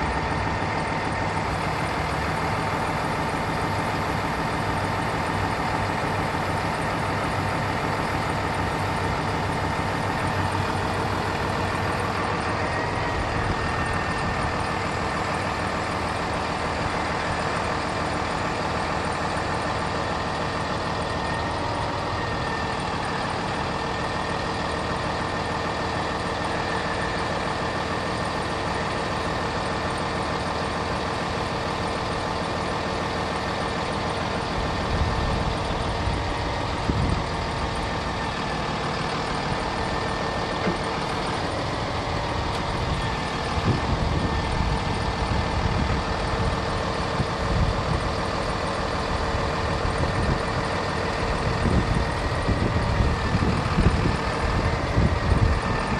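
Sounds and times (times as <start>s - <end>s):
diesel engine idling: 0.0s - 55.9s
high hydraulic whine: 0.0s - 55.9s.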